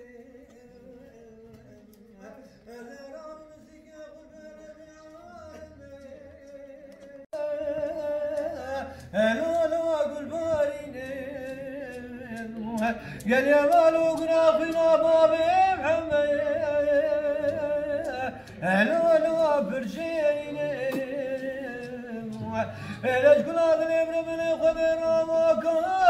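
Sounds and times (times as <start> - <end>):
man singing unaccompanied: 0.0 - 26.0.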